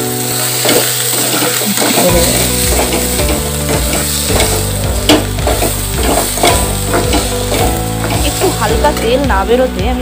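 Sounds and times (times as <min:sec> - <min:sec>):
masala sizzling in oil: 0:00.0 - 0:10.0
spatula scraping a pan: 0:00.2 - 0:09.0.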